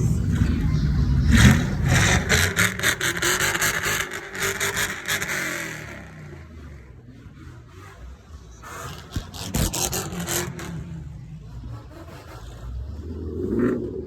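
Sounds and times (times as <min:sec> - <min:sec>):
car engines running at low revs: 0:00.0 - 0:14.0.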